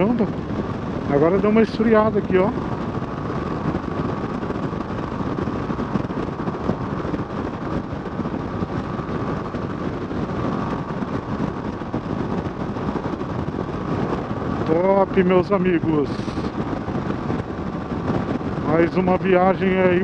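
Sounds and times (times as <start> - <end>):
wind rush: 0.0 - 20.0.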